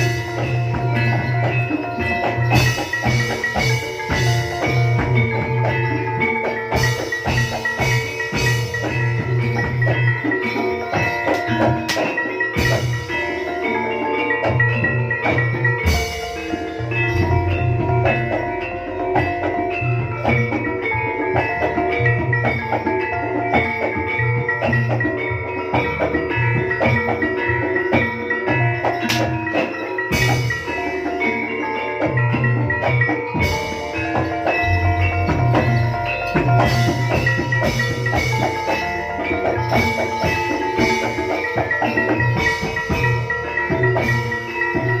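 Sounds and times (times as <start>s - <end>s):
gamelan music: 0.0s - 45.0s
gong-chime and metallophone: 0.0s - 45.0s
pulsing drum: 0.0s - 45.0s.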